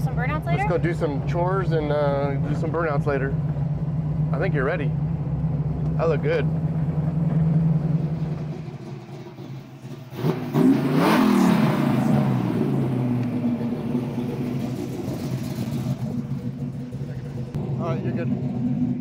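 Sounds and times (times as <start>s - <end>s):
car engine running and revving: 0.0s - 19.0s.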